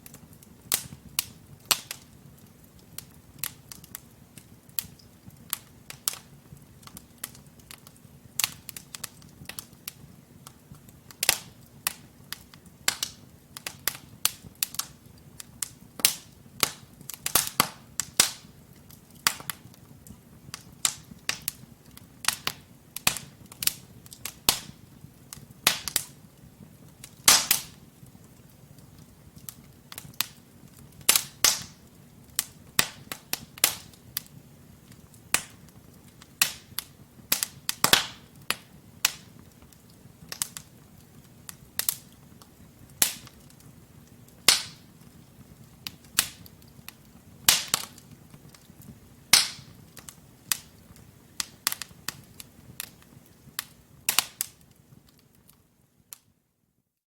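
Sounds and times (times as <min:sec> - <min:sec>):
sharp pops from burning logs: 0:00.0 - 0:56.3
wood fire crackling: 0:00.0 - 0:56.6.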